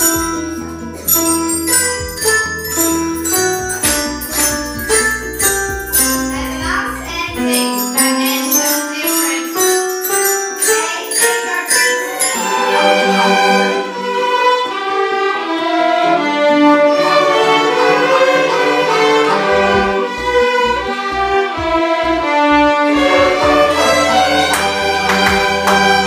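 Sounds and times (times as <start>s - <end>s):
violins and cellos: 0.0s - 7.3s, 10.6s - 26.0s
glockenspiel notes: 0.0s - 15.3s, 16.0s - 26.0s.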